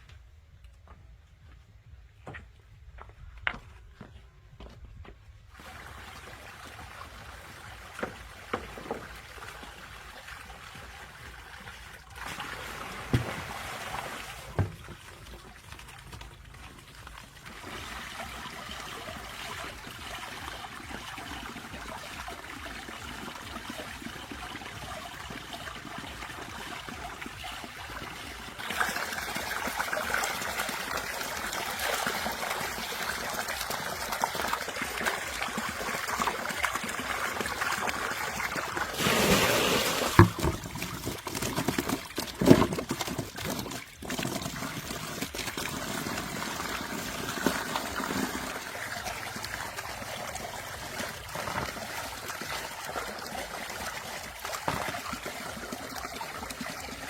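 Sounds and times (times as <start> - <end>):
water trickling and running: 5.5 - 57.0.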